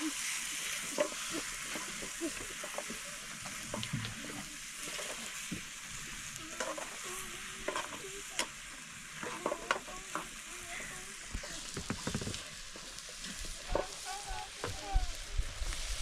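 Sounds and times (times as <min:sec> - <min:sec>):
food frying sizzle: 0:00.0 - 0:16.0
stirring clicks and knocks: 0:00.6 - 0:05.8, 0:06.4 - 0:14.8.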